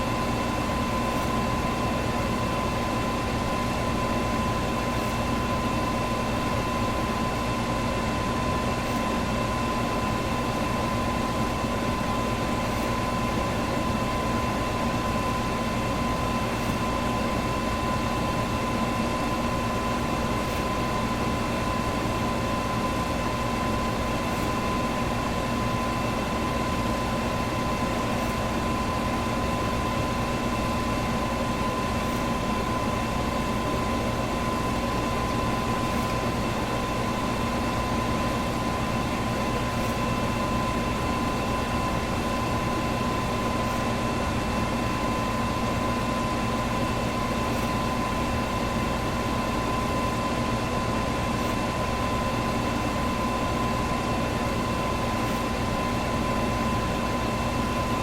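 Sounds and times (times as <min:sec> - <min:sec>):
fan motor hum: 0:00.0 - 0:58.0.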